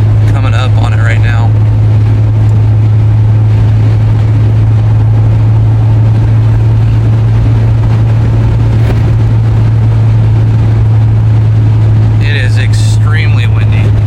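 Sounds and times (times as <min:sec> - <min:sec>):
car cabin drone: 0:00.0 - 0:14.0
road and wind noise: 0:00.0 - 0:14.0.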